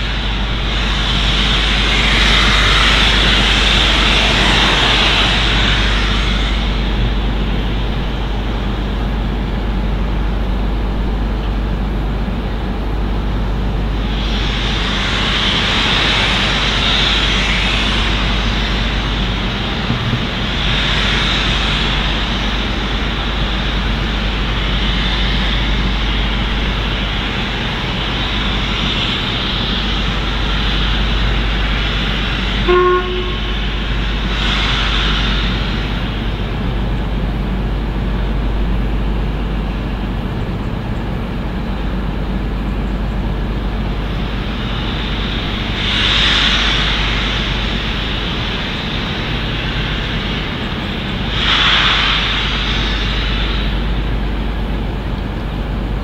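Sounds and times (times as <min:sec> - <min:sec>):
steady low rumble: 0:00.0 - 0:56.0
steam locomotive hissing: 0:00.0 - 0:56.0.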